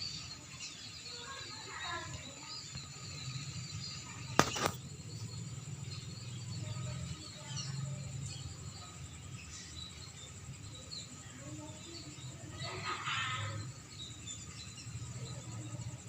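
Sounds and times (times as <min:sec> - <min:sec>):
faint swiftlets chirping: 0:00.0 - 0:16.0.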